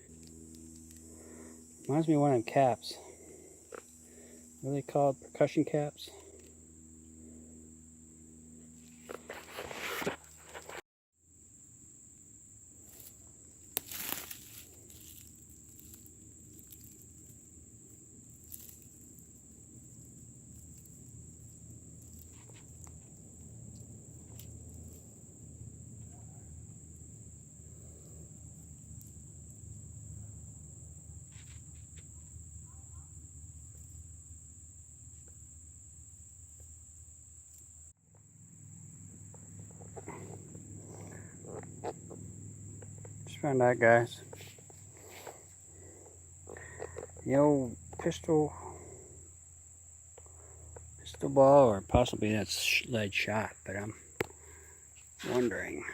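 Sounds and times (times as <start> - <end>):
insects trilling: 0.0 - 55.9
rumbling handling noise: 6.1 - 10.8, 12.5 - 52.2, 53.6 - 55.9.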